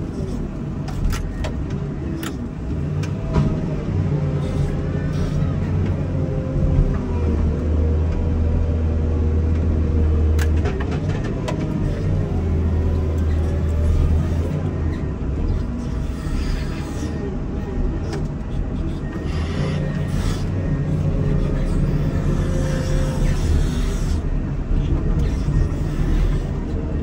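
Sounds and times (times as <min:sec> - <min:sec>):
diesel engine droning under load: 0:00.0 - 0:27.0.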